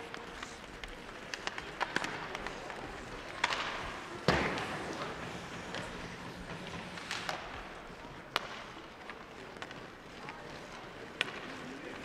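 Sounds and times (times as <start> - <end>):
hockey sticks clacking on puck: 0.0 - 12.0.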